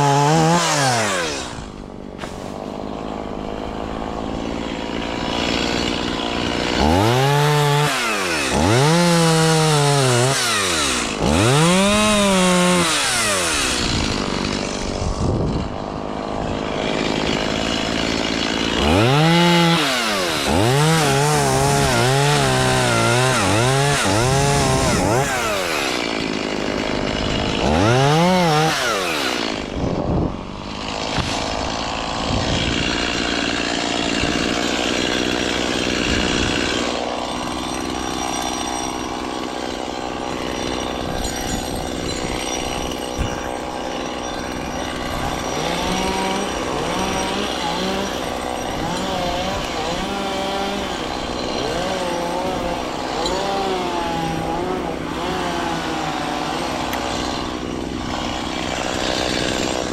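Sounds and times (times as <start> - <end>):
two-stroke chainsaw revving: 0.0 - 59.9.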